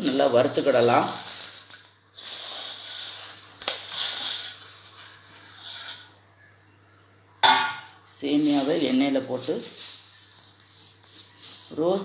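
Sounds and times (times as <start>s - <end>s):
dry vermicelli crackling: 0.0s - 6.6s, 8.1s - 12.0s.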